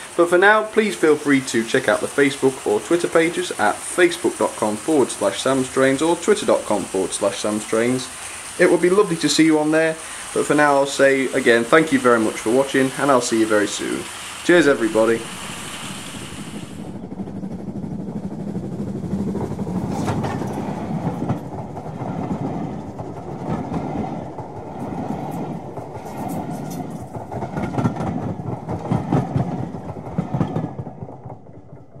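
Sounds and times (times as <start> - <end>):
model train rumble: 0.0 - 32.0
wheels clicking over rail joints: 0.0 - 32.0.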